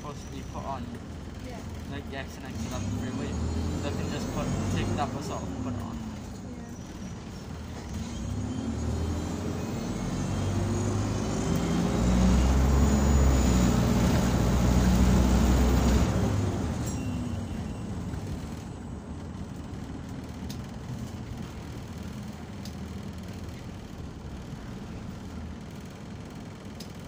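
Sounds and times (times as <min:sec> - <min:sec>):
bus engine accelerating with whine: 0:00.0 - 0:27.0.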